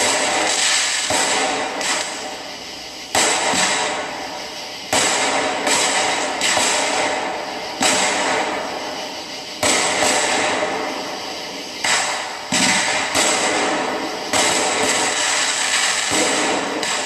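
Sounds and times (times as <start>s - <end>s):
fireworks shells bursting: 0.0s - 17.0s.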